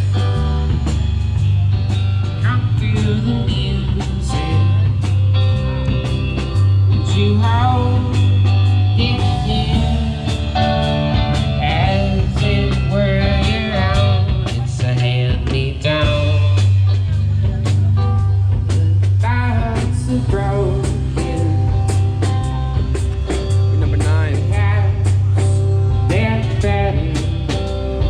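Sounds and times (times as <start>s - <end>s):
person singing: 0.0s - 22.5s, 23.8s - 28.0s
bass line: 0.0s - 28.0s
guitar: 0.0s - 28.0s.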